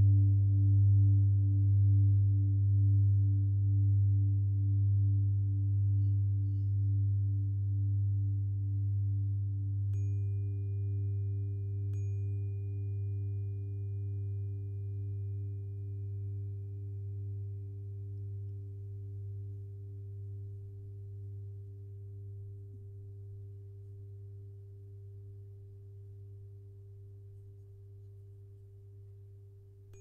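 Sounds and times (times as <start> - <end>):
low hum of sine tones: 0.0 - 30.0
tuning fork ringing: 0.0 - 30.0.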